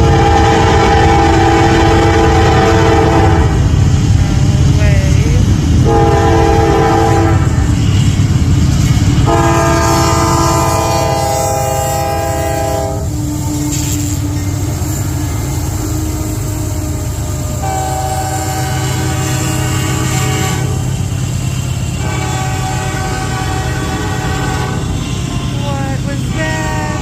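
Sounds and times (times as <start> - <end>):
locomotive air horn: 0.0 - 3.7, 5.8 - 8.4, 9.2 - 27.0
passing train rumble: 0.0 - 27.0.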